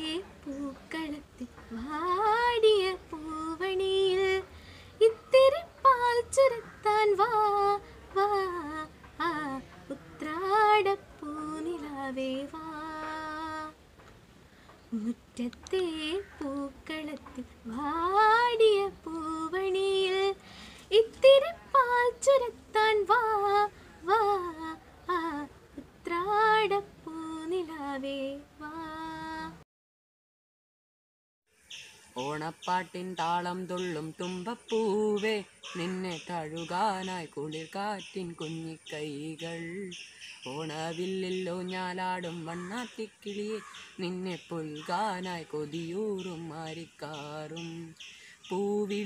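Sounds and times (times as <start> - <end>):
girl singing unaccompanied: 0.0 - 13.9, 14.8 - 29.6, 32.2 - 49.0.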